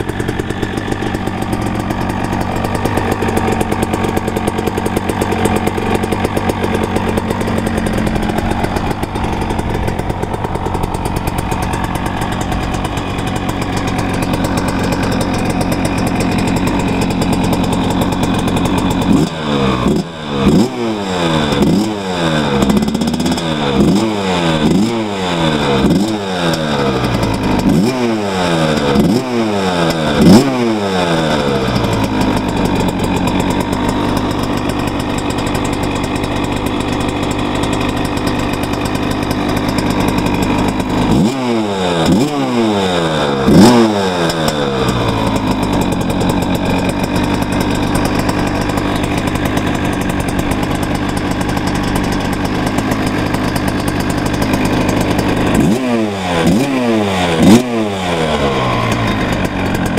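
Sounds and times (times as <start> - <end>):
motorcycle engine idling: 0.0 - 59.9
motorcycle engine revving: 0.0 - 59.9.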